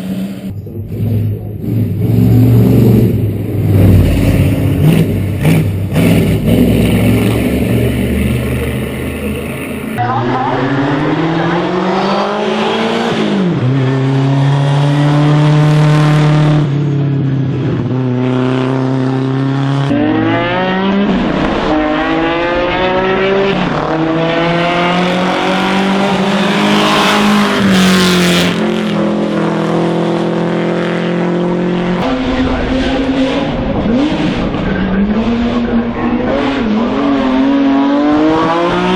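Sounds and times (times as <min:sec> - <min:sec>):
racing car engine accelerating: 0:00.0 - 0:38.9.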